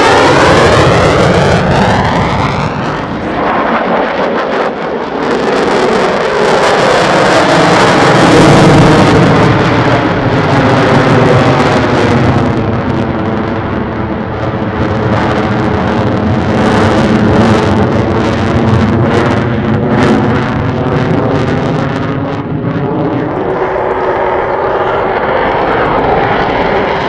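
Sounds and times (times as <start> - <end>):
jet fighter afterburner roar: 0.0 - 27.0.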